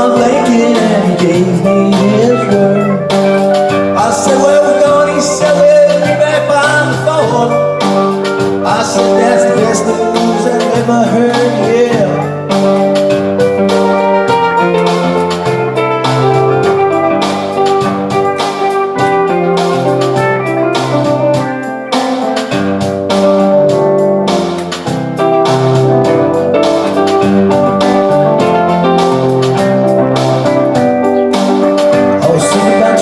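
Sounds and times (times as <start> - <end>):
instrumental rock music: 0.0 - 33.0.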